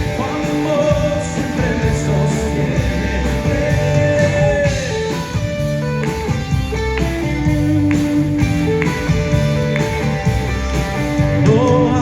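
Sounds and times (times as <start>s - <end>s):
electric guitar lead notes: 0.0s - 12.0s
live band playing: 0.0s - 12.0s.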